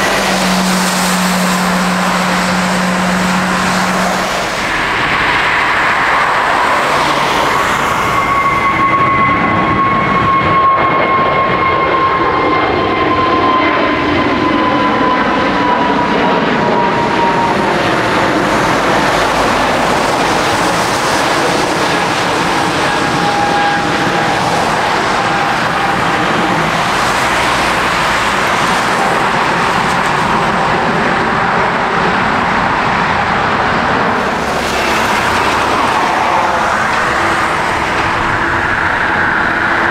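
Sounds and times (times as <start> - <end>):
jet airliner engines passing: 0.0 - 39.9.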